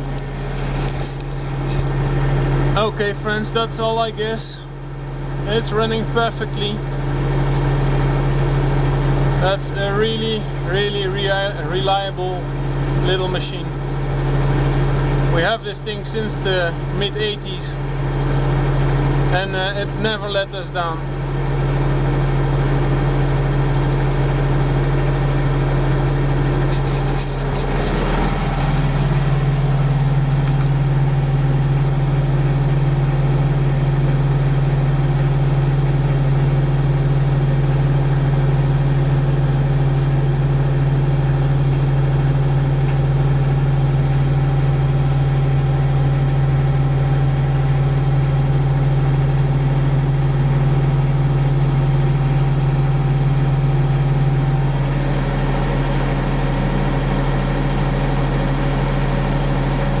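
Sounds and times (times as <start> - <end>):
diesel generator running: 0.0 - 60.0.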